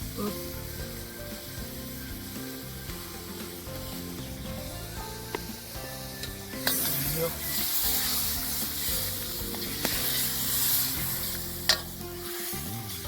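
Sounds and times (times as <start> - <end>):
tomatoes sizzling in a pan: 0.0 - 13.0.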